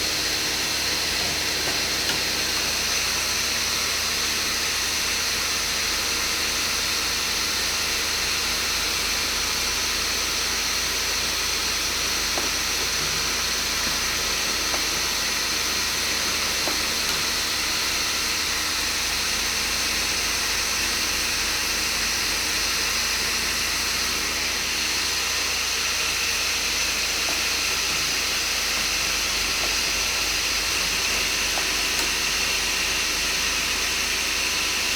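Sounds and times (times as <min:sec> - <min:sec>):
welding machine hissing: 0:00.0 - 0:34.9.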